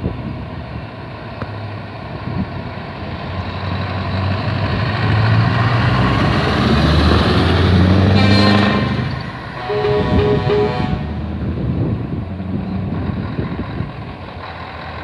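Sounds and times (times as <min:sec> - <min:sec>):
truck diesel engine passing: 0:02.7 - 0:15.0.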